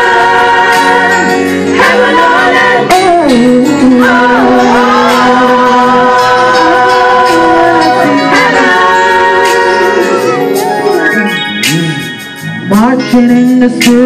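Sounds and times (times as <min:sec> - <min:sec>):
gospel singing: 0:00.0 - 0:14.0
instrumental backing chords: 0:00.0 - 0:14.0.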